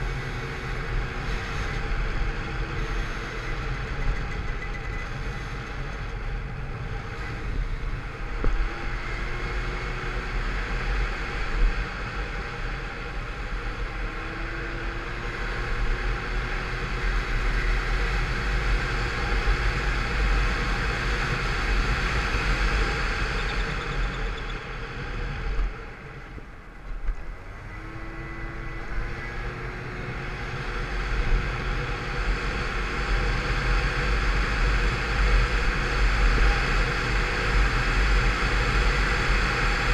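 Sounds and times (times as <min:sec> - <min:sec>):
rushing wind: 0:00.0 - 0:39.9.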